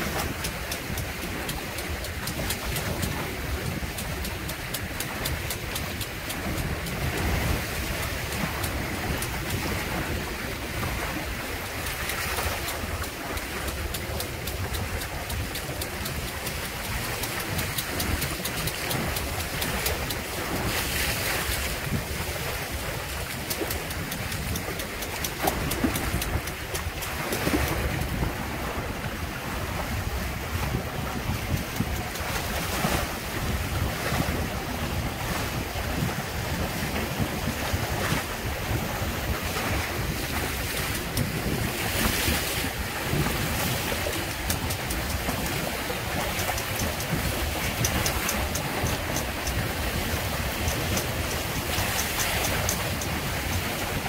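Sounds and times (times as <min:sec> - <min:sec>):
water rushing past hulls: 0:00.0 - 0:54.0
wave slapping: 0:00.0 - 0:54.0
wind buffeting microphone: 0:00.0 - 0:54.0.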